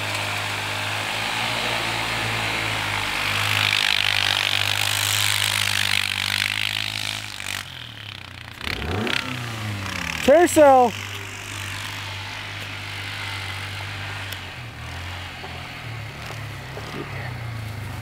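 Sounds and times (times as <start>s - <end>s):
quad bike engine under throttle: 0.0s - 18.0s.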